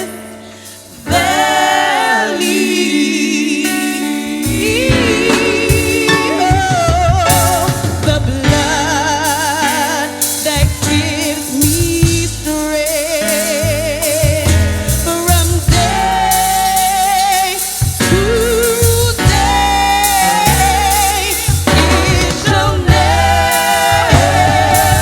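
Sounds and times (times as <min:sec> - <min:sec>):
band with drums: 0:00.0 - 0:25.0
gospel singing with heavy vibrato: 0:00.0 - 0:25.0.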